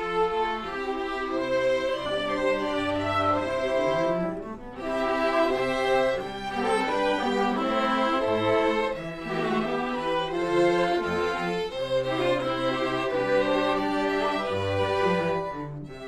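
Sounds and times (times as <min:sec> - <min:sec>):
string ensemble playing: 0:00.0 - 0:16.0.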